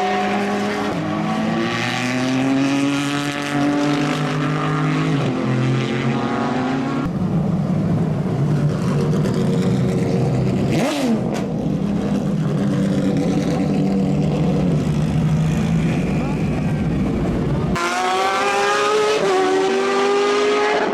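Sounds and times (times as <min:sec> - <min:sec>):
race car engines running hard: 0:00.0 - 0:20.9.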